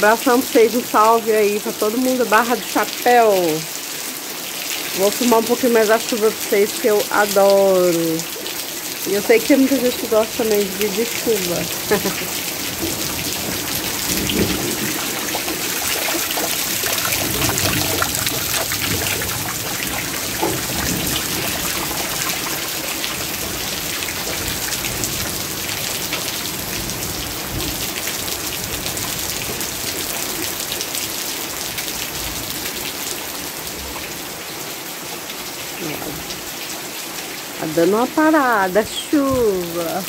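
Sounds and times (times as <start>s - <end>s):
heavy rain on wet ground: 0.0s - 40.0s.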